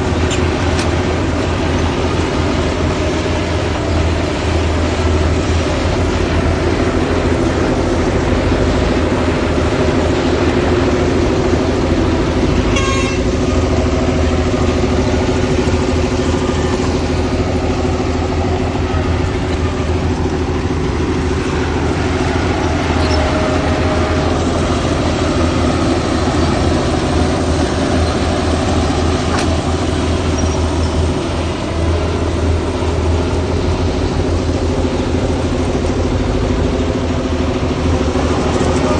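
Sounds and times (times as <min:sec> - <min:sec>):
heavy diesel engines running: 0:00.0 - 0:38.9
machinery clatter: 0:00.0 - 0:38.9.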